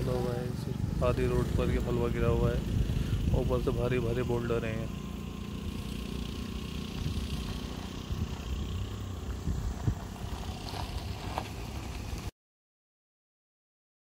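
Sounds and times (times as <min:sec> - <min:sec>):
vehicle engine rumbling: 0:00.0 - 0:12.3.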